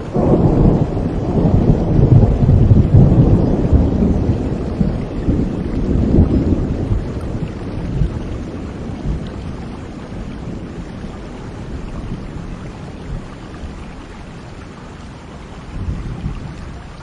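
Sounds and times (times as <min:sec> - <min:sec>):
low thunder rumble: 0:00.0 - 0:17.0
steady rain: 0:00.0 - 0:17.0.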